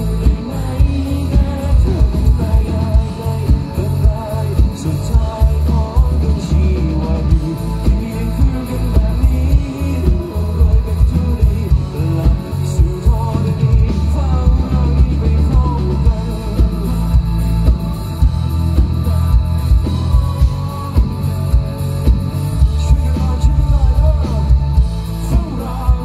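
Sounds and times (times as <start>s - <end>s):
drum kit beat: 0.0s - 26.0s
electric guitar: 0.0s - 26.0s
heavy bass: 0.0s - 26.0s
man singing: 0.0s - 26.0s.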